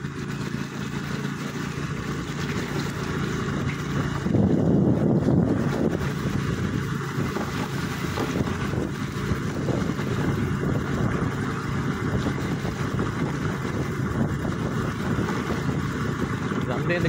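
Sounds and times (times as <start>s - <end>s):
vehicle engine running: 0.0s - 17.0s
wind over microphone: 2.4s - 17.0s.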